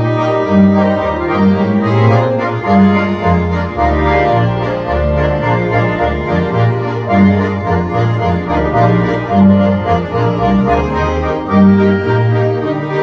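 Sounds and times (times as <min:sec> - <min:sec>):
accordion chords: 0:00.0 - 0:13.0
double bass line: 0:00.0 - 0:13.0.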